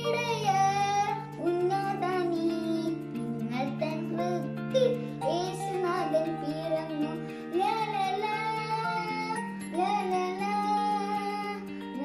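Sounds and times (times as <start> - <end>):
girl singing: 0.0 - 12.0
instrumental accompaniment: 0.0 - 12.0.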